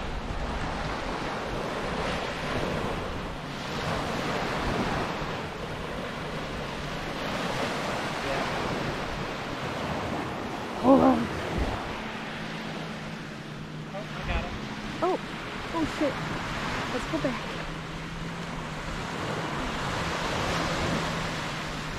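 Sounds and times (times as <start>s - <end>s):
small waves washing onto sand: 0.0s - 21.9s
wind buffeting microphone: 0.0s - 21.9s.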